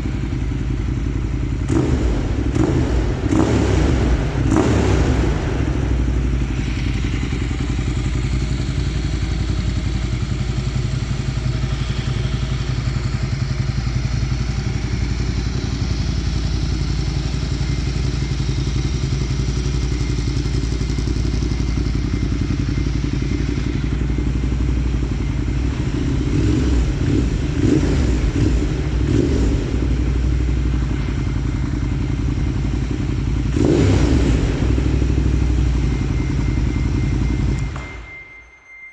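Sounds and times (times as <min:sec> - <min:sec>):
motorcycle engine idling: 0:00.0 - 0:38.2.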